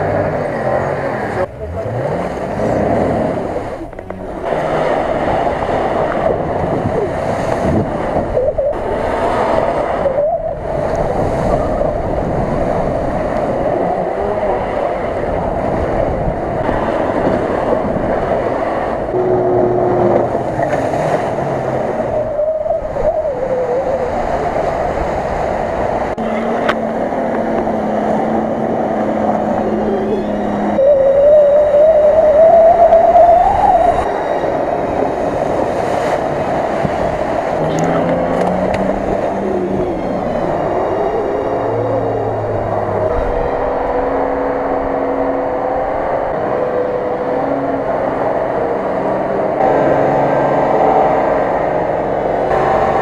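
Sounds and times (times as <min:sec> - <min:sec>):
off-road engines under load: 0:00.0 - 0:53.0
tyres churning through mud: 0:00.0 - 0:53.0
water splashing: 0:00.0 - 0:53.0.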